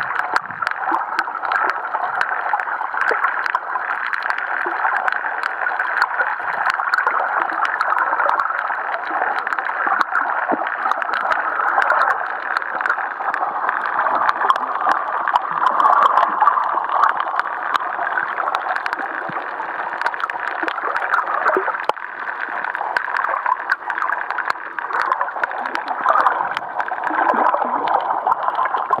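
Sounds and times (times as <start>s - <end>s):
muffled underwater water rushing: 0.0s - 29.0s.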